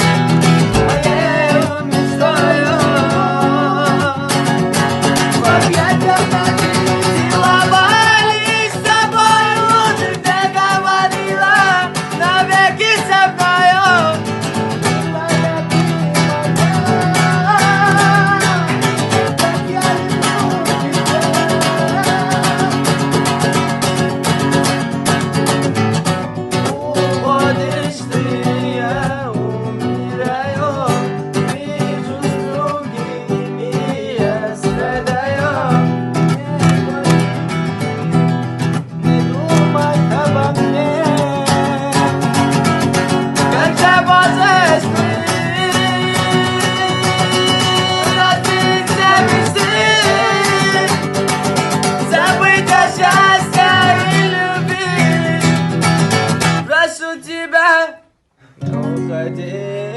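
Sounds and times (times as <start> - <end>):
song with guitar: 0.0 - 59.9.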